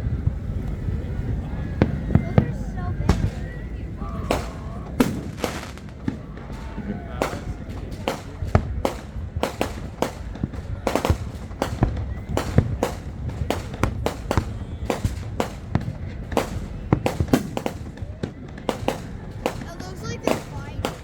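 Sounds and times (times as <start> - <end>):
distant explosions rumbling: 0.0 - 21.0
firecrackers banging: 0.0 - 21.0.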